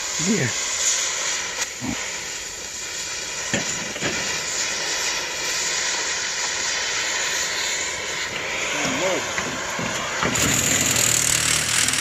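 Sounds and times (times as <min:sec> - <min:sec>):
cutting torch hissing: 0:00.0 - 0:12.0.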